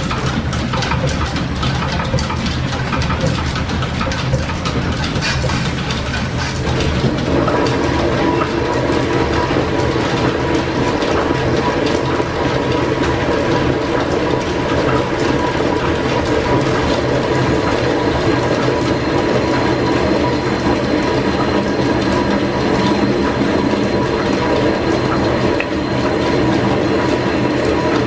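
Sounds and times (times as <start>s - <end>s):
lathe clattering gears: 0.0s - 28.0s.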